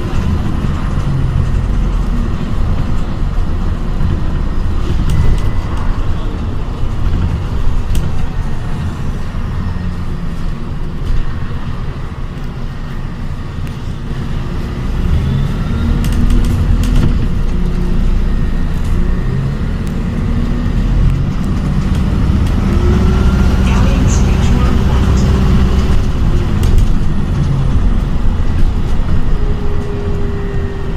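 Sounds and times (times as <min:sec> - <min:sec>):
bus engine rumble: 0:00.0 - 0:30.9
rattles inside bus: 0:00.0 - 0:30.9.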